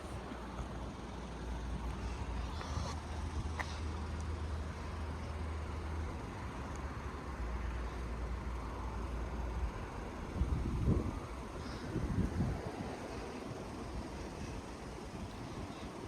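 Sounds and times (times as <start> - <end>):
low engine rumble: 0.0 - 16.0
traffic noise: 0.0 - 16.0.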